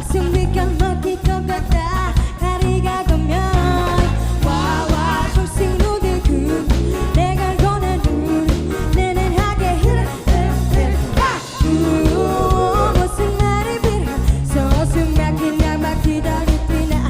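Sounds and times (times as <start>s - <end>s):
bass and drums: 0.0s - 17.0s
person singing: 2.4s - 17.0s.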